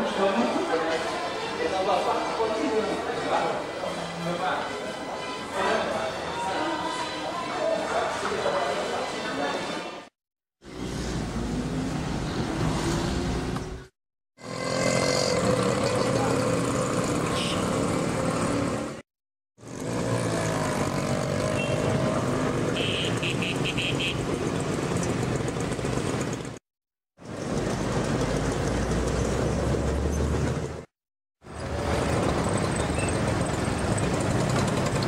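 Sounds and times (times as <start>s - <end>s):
street traffic: 0.0s - 19.0s, 19.6s - 26.6s, 27.2s - 35.0s.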